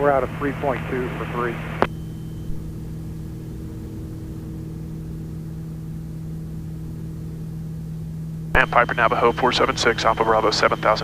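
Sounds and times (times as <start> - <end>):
propeller plane engines droning: 0.0 - 11.0.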